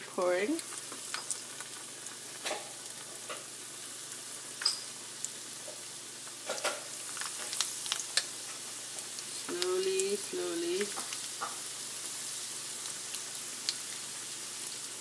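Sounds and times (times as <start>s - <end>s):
batter sizzling in oil: 0.0s - 15.0s.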